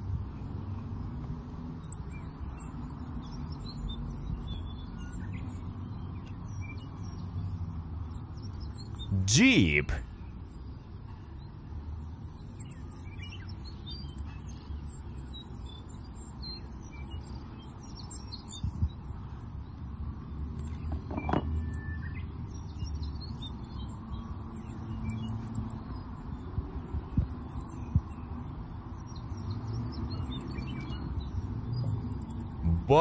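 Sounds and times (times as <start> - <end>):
small birds chirping: 0.0 - 9.2, 9.8 - 33.0.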